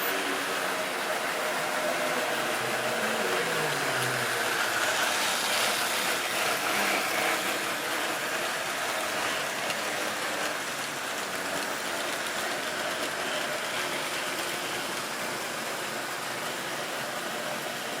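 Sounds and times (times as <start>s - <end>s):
model train whirring and rattling: 0.0s - 18.0s.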